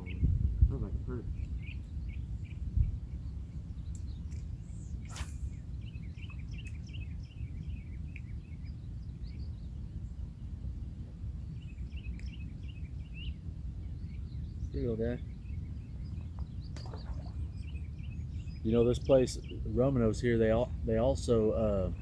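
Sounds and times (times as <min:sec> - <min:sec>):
small birds chirping: 0:00.0 - 0:22.0
wind rumble on microphone: 0:00.0 - 0:22.0.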